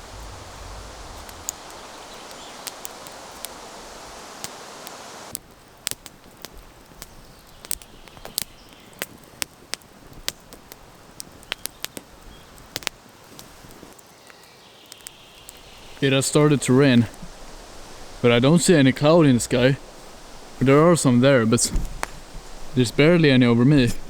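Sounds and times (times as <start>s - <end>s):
raindrops ticking: 0.0s - 13.5s, 14.9s - 24.0s
steady hiss: 0.0s - 24.0s.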